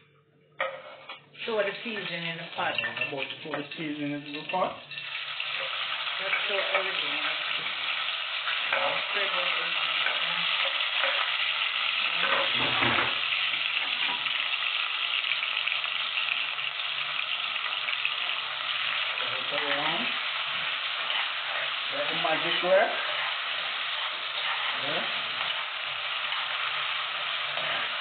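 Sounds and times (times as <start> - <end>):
vegetables frying in hot oil: 1.4 - 28.0.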